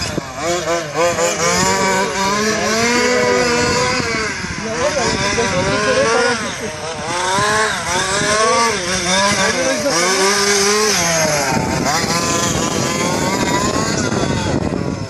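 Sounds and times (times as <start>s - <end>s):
rc car engine revving: 0.0s - 15.0s.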